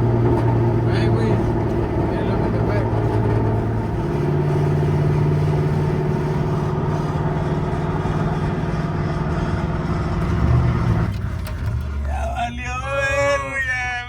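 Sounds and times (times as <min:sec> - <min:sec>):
pickup truck engine running: 0:00.0 - 0:14.0.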